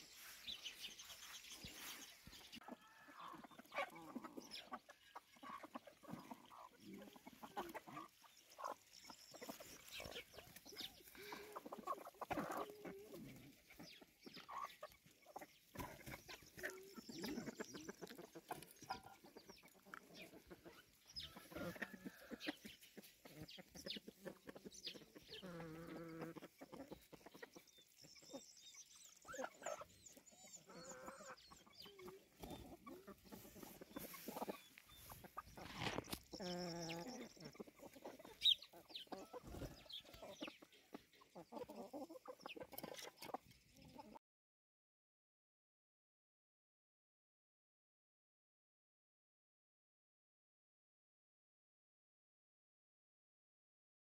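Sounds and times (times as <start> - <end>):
chickens clucking: 0.0 - 44.2
drawn-out chicken call: 0.0 - 44.2.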